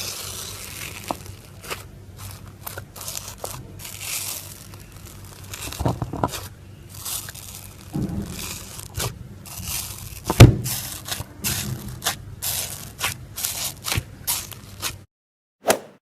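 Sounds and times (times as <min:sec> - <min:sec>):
slime crackling and crunching: 0:00.0 - 0:15.0
slime squish: 0:00.0 - 0:15.0.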